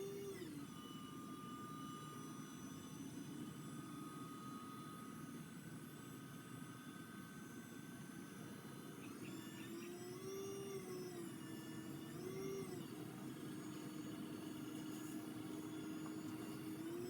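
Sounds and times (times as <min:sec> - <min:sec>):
small electric motor whirring: 0:00.0 - 0:17.0.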